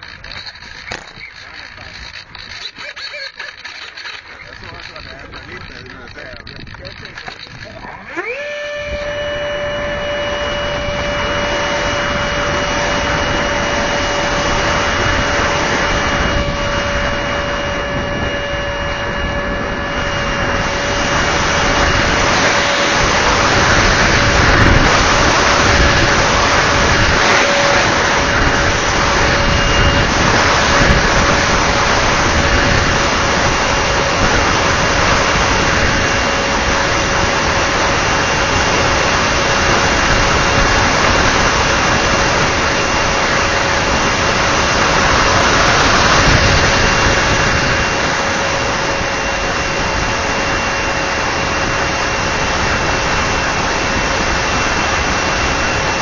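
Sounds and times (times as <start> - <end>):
model plane motor whine: 0.0 - 56.0
rushing wind noise: 4.4 - 56.0.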